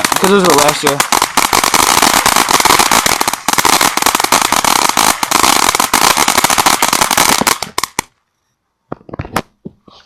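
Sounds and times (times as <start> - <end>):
fireworks crackling pops: 0.0 - 8.2, 8.9 - 9.8.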